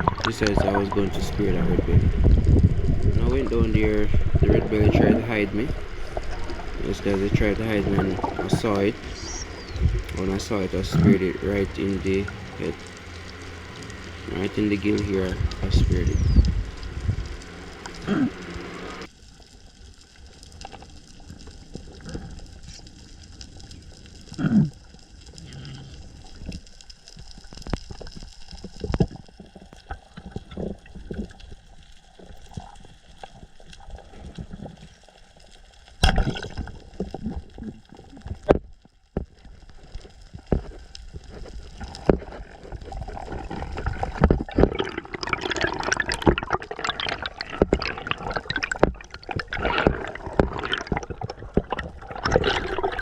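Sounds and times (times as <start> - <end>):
underwater water sloshing and gurgling: 0.0 - 53.0.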